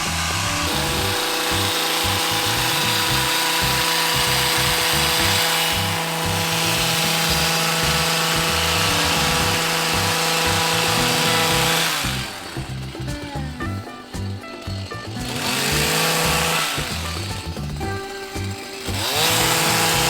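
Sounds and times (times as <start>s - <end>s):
hedge trimmer running: 0.0s - 20.0s.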